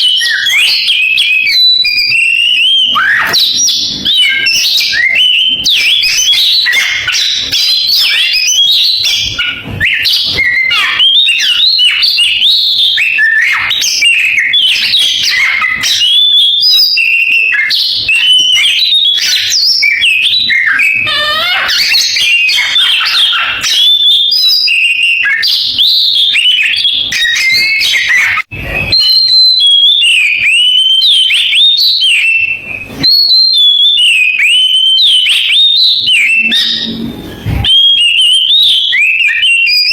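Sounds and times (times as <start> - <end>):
songbird whistling and trilling: 0.0 - 39.9.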